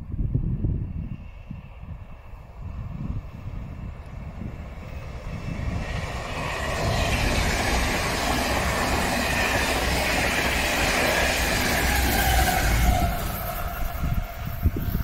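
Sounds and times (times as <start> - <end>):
diesel locomotive rumble: 0.1 - 15.0
train coaches rushing on rails: 0.4 - 15.0.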